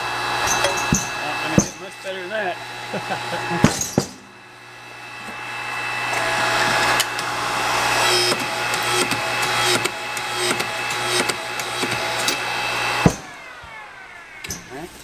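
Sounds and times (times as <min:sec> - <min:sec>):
pipe-bending machine motor humming: 0:00.0 - 0:15.0.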